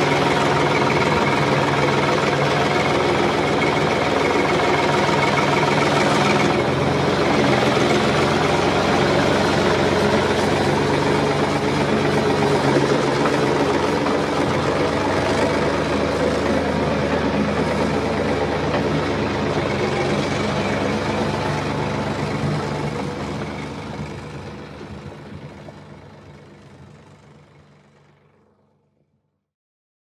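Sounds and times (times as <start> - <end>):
engine running hum: 0.0 - 29.3.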